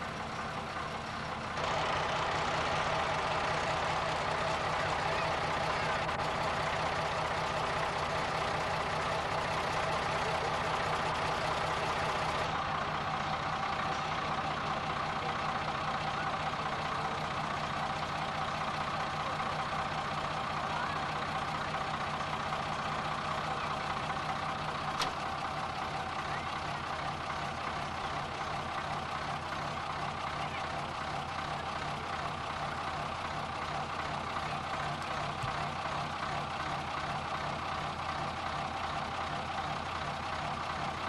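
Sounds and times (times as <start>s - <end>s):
truck engine running: 0.0s - 41.0s.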